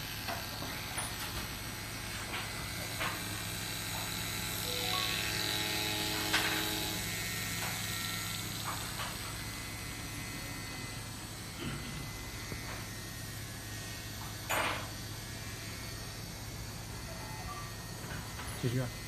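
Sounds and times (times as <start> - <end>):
small electric motor hum: 0.0 - 19.0.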